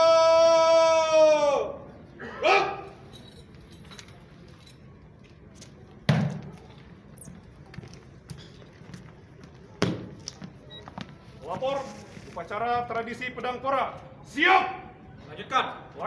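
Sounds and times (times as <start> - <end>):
low murmur of room noise: 0.0 - 16.0.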